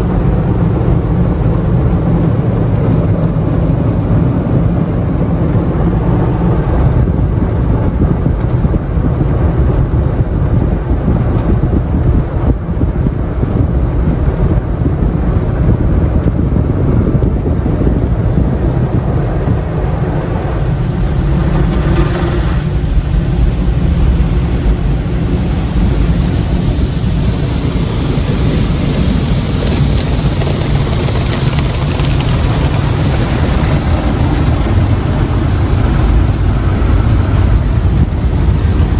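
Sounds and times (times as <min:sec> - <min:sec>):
car wash water jets and machinery: 0:00.0 - 0:38.9.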